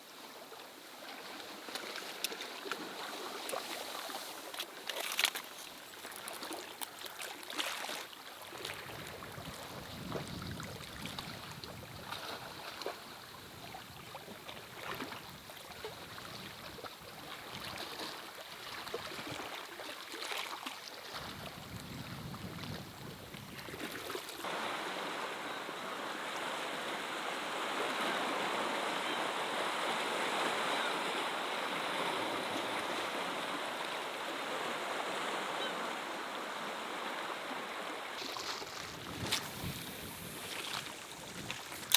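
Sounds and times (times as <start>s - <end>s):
rushing water: 1.0s - 41.9s.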